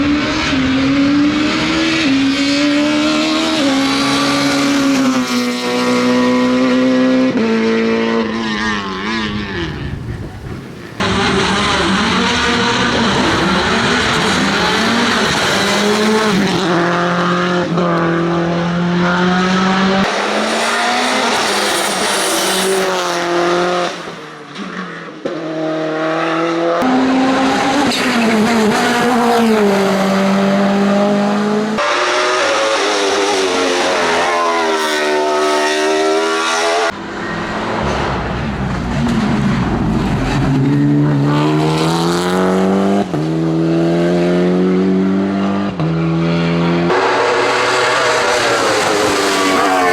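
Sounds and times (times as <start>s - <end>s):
racing car engines revving: 0.0s - 49.9s.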